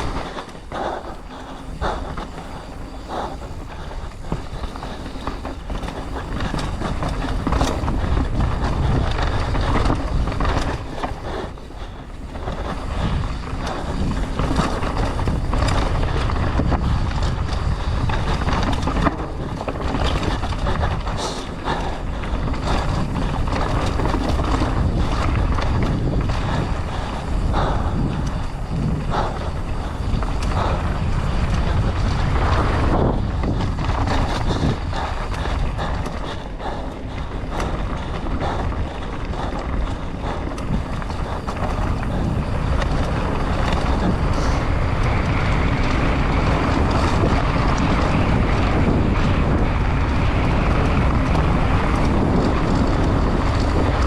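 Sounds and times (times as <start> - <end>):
bike rattling: 0.0 - 54.0
tyres running on dirt: 0.0 - 54.0
wind rushing over microphone: 0.0 - 54.0.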